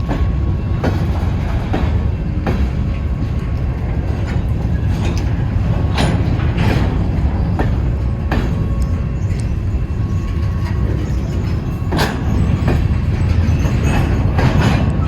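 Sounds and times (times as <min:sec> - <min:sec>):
freight train rumbling: 0:00.0 - 0:15.0
wheel clacks over rail joints: 0:00.0 - 0:15.0.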